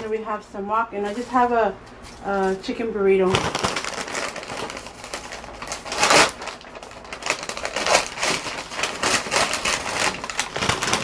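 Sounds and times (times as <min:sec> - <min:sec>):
paper bags rustling and crinkling: 0:01.0 - 0:11.0.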